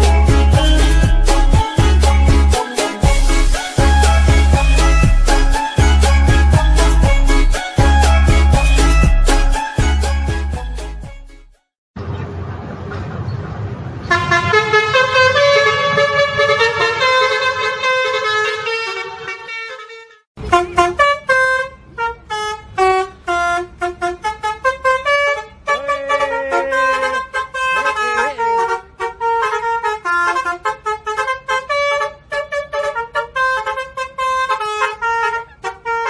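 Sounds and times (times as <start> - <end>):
multi-tone musical bus horn: 0.0 - 10.7, 14.1 - 36.0.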